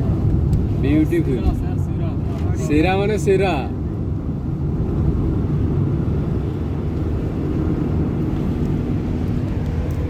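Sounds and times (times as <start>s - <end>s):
car engine droning: 0.0s - 10.0s
road and wind noise: 0.0s - 10.0s.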